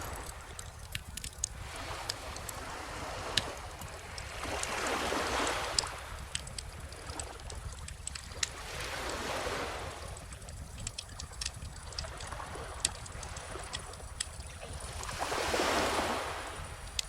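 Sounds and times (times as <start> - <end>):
ocean waves washing in: 0.0 - 7.5, 8.4 - 17.0
bonfire crackling and popping: 0.0 - 17.0.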